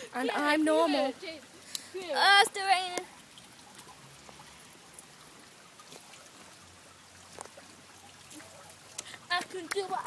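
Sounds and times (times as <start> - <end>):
rain falling: 0.0 - 10.0
raindrops ticking: 0.0 - 10.0.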